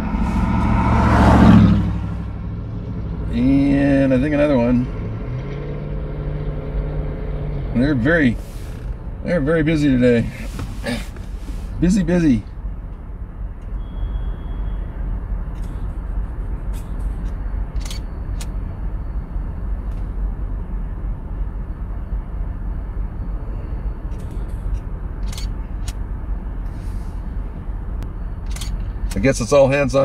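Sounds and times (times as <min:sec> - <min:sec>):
car engine rumble inside cabin: 0:00.0 - 0:30.0.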